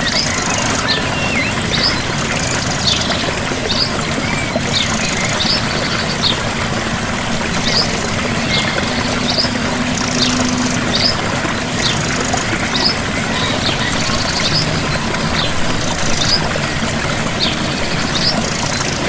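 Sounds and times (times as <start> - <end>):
bird chirping: 0.0 - 19.0
gentle waterfall rushing: 0.0 - 19.0.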